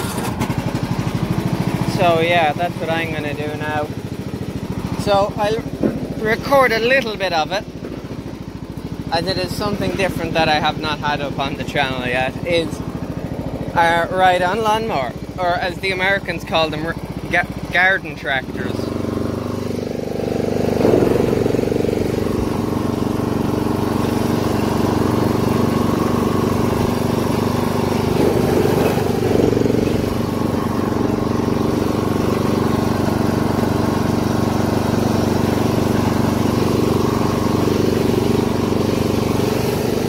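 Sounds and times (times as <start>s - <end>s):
ride-on lawn mower engine running: 0.0s - 40.0s.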